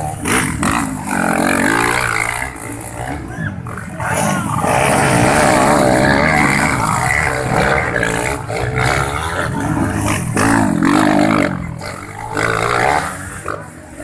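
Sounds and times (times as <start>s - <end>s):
motocross bikes revving: 0.0s - 14.0s.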